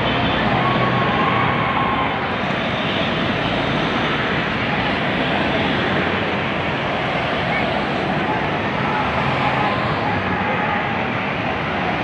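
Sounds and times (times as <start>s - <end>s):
road traffic roar: 0.0s - 12.0s.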